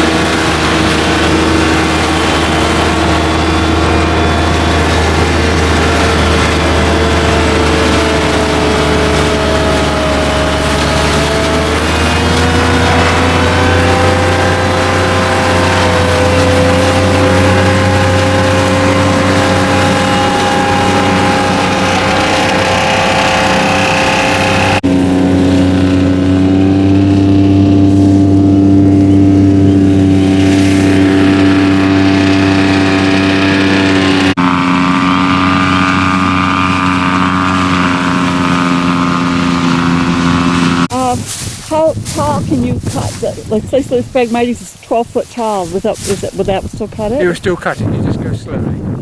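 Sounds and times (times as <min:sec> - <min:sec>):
machine cutting and blowing grass: 0:00.0 - 0:48.2
harvester diesel engine running: 0:00.0 - 0:49.0.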